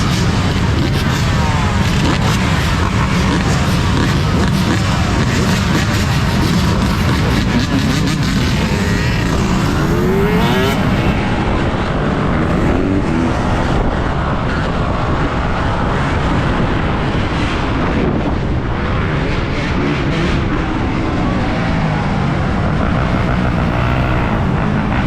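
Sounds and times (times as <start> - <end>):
off-road motorbike engine: 0.0 - 25.0.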